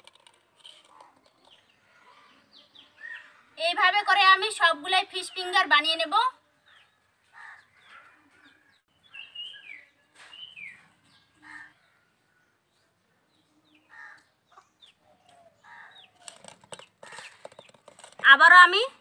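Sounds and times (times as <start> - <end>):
birds chirping: 0.7 - 19.0.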